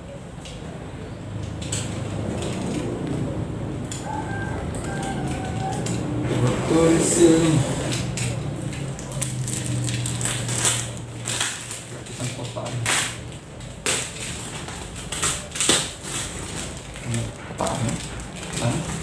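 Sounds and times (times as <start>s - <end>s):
packing wrap crackling: 1.6s - 19.0s.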